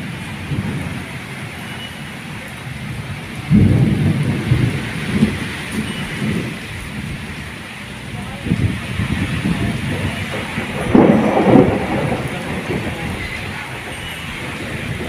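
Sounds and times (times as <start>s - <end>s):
steady rain: 0.0s - 15.0s
thunder rumble: 0.0s - 15.0s.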